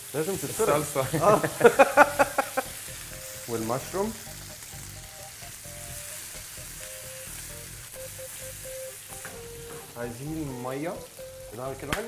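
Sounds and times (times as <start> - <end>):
vegetables sizzling in frying pan: 0.0 - 12.0
soft background music: 0.1 - 12.0.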